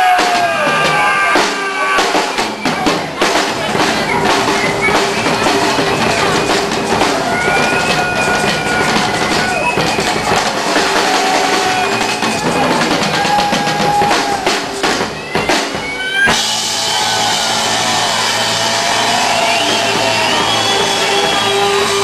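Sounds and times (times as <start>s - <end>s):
drum kit quick hits: 0.0s - 22.0s
live rock band playing: 0.0s - 22.0s.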